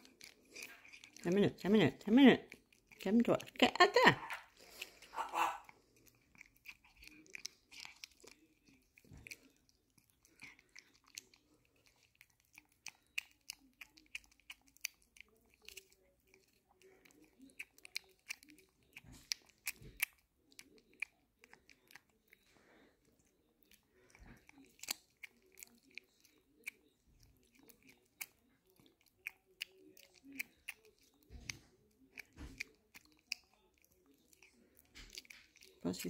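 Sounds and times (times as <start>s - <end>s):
cat lip smacks: 4.2s - 36.0s.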